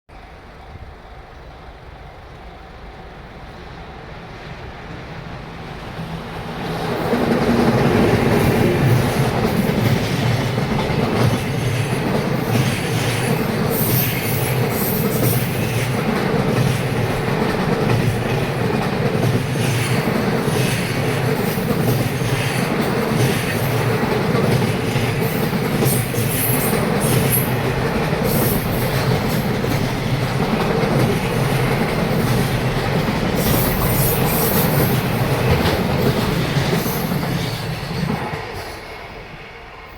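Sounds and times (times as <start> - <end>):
freight train passing: 0.1 - 39.9.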